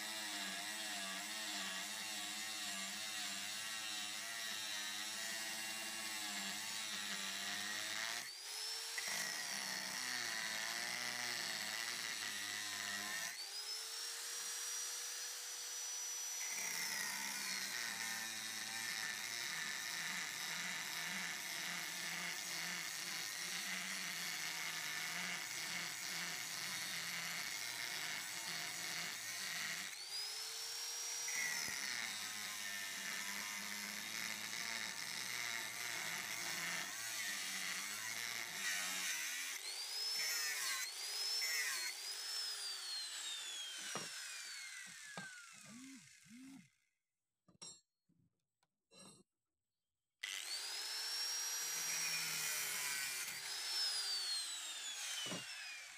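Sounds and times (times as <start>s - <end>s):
angle grinder grinding steel: 0.0s - 46.8s, 50.2s - 55.9s.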